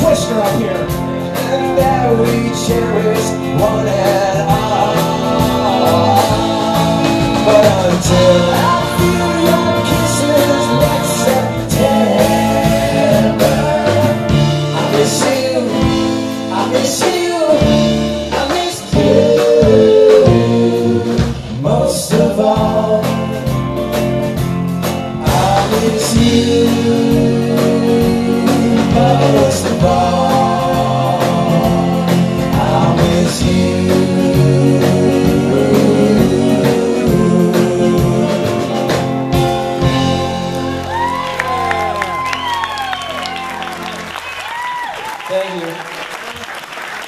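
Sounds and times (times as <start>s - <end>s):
man singing lead vocal: 0.0s - 23.8s, 25.0s - 40.3s
electric guitars: 0.0s - 45.2s
drum kit: 0.0s - 45.5s.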